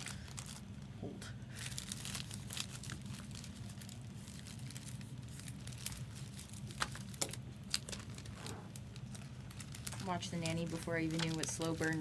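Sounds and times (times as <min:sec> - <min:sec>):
plastic packaging crinkling and tearing: 0:00.0 - 0:00.8, 0:01.5 - 0:12.0
low steady hum: 0:00.0 - 0:12.0.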